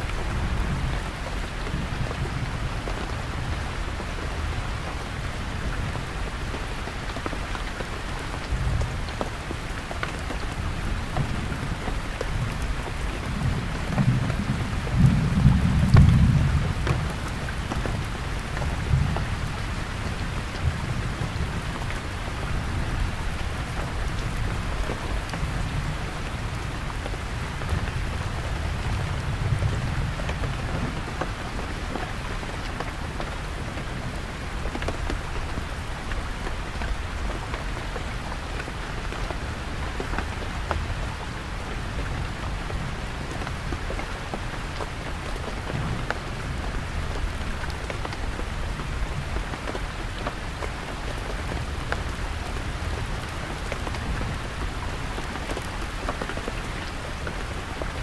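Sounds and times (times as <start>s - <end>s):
heavy rain on tent: 0.0s - 58.0s.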